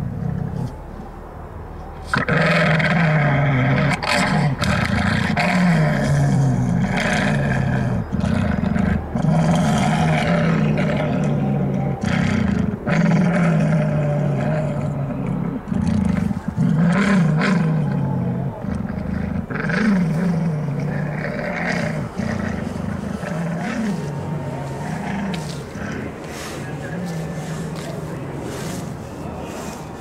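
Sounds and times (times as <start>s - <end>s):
dog growling through speaker: 2.1s - 28.2s.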